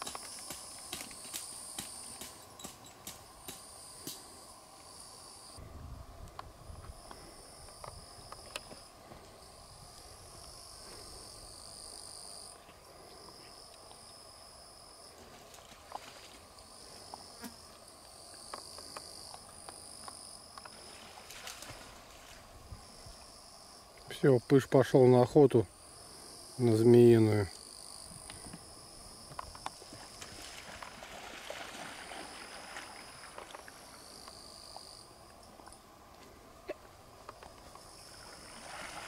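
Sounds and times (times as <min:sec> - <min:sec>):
crickets chirping: 0:00.0 - 0:39.0
insect noise: 0:00.0 - 0:39.0.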